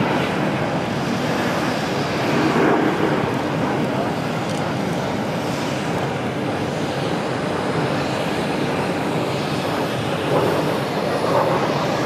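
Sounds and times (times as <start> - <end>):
jets flying overhead: 0.0 - 12.0.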